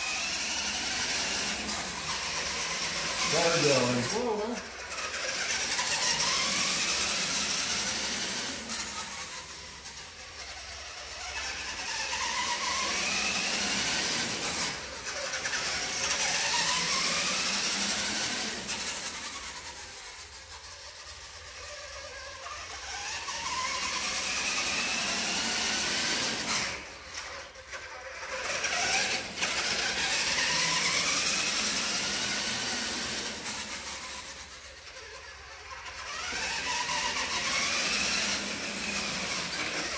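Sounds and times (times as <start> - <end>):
rc truck electric motor whining: 0.0 - 39.9.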